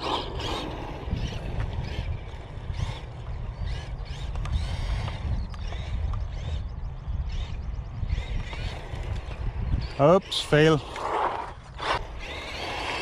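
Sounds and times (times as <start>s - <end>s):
rc car motor whining: 0.0s - 13.0s
wind rumble on microphone: 0.0s - 13.0s.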